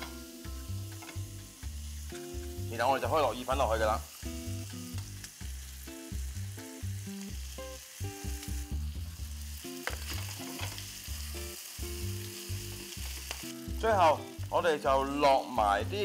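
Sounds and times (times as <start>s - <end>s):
background music with bass: 0.0s - 16.0s
spaghetti sizzling in a frying pan: 0.0s - 16.0s.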